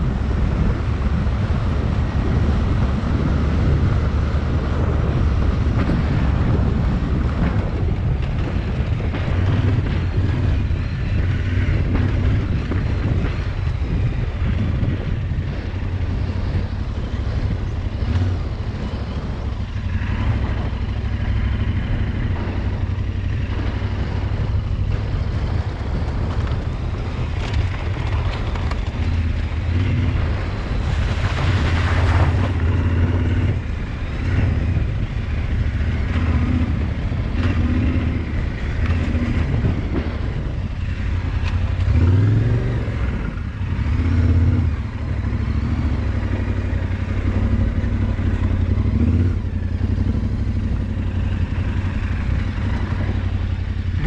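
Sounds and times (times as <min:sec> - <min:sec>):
off-road vehicle engine: 0:00.0 - 0:54.0.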